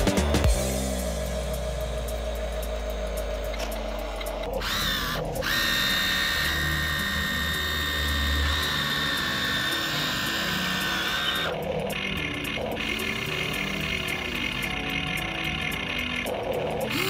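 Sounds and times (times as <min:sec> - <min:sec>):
toy motor whining: 0:01.6 - 0:17.0.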